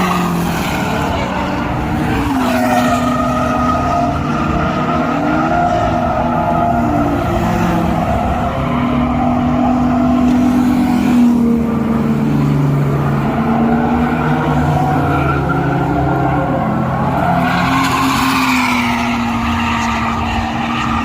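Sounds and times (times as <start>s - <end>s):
car engines at high revs: 0.0s - 21.0s.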